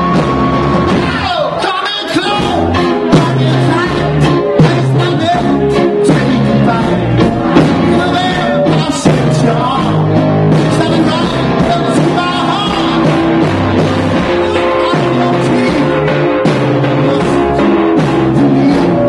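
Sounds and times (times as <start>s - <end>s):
live rock band playing: 0.0s - 19.0s
person singing: 1.0s - 19.0s.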